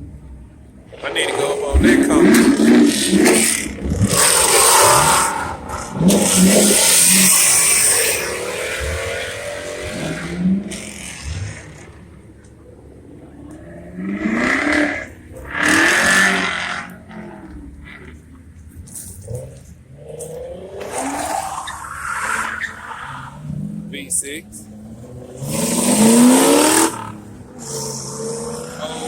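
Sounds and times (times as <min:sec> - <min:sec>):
car engines revving: 0:00.0 - 0:29.0
cars driving past: 0:00.0 - 0:29.0.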